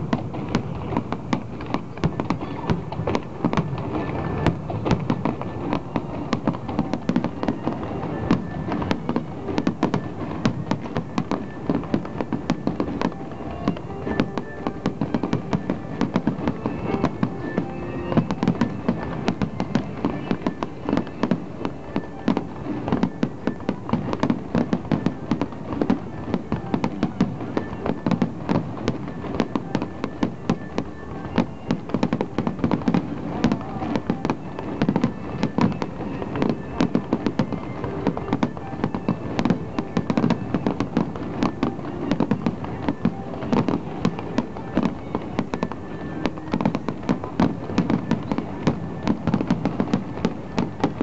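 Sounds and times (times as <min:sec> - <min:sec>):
fireworks bursting and crackling: 0:00.0 - 0:51.0
music playing: 0:01.9 - 0:51.0.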